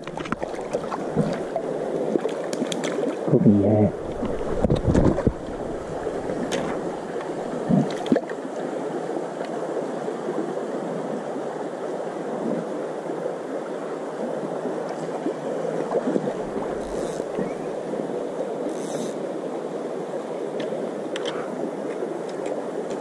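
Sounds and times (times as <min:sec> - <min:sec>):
stream babbling over stones: 0:00.0 - 0:23.0.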